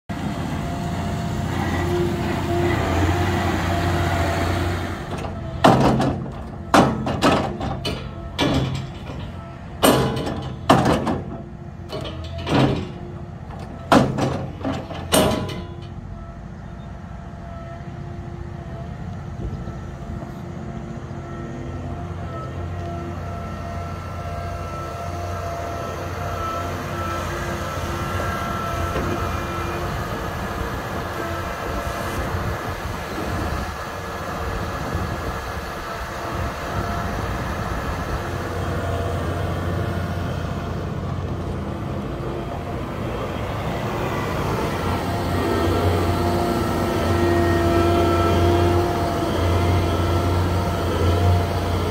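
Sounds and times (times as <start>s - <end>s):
diesel engine running: 0.1s - 51.9s.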